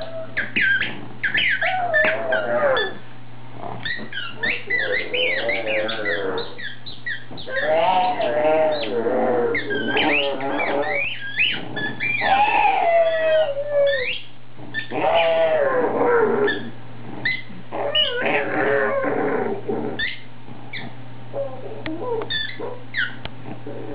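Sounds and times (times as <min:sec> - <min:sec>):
dog growling and howling: 0:00.0 - 0:20.3, 0:21.3 - 0:23.9.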